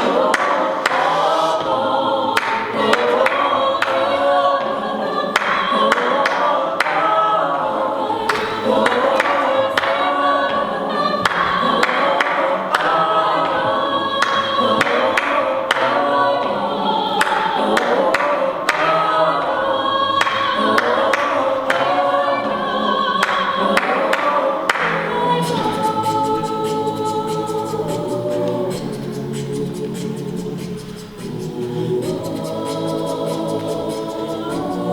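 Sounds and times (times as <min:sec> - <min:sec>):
choir singing in parts: 0:00.0 - 0:34.9.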